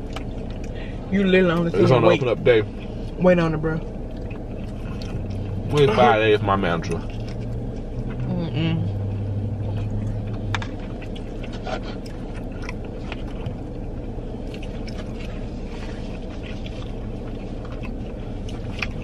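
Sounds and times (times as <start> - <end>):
person chewing: 0.0 - 3.2, 3.8 - 8.3, 8.9 - 19.0
steady low hum: 0.0 - 19.0.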